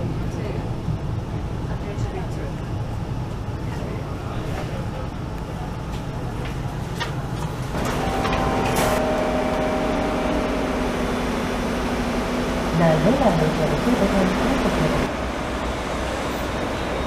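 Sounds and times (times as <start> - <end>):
diesel train hum with held tones: 0.0 - 17.0
train rumbling inside carriage: 0.0 - 17.0.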